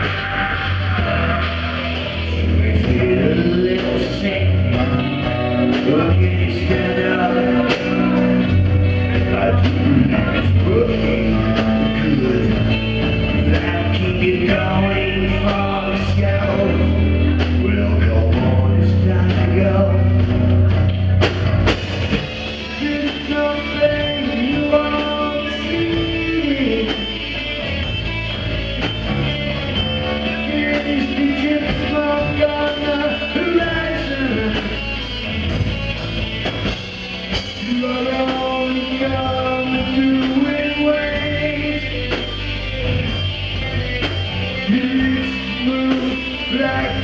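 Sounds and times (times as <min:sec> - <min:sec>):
lead guitar bending notes: 0:00.0 - 0:47.0
live rock band playing: 0:00.0 - 0:47.0.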